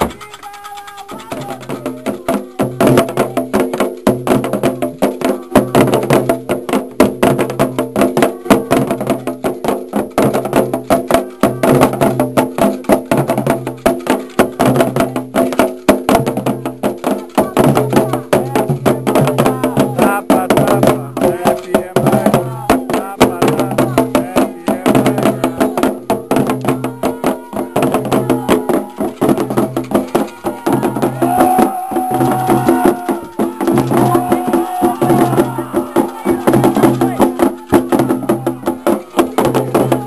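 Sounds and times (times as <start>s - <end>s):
fast ritual drumming: 0.0s - 40.0s.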